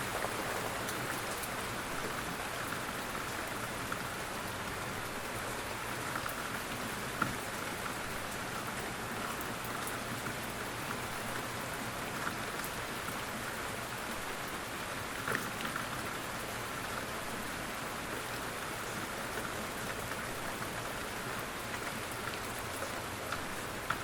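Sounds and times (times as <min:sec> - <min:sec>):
steady rain patter: 0:00.0 - 0:24.0.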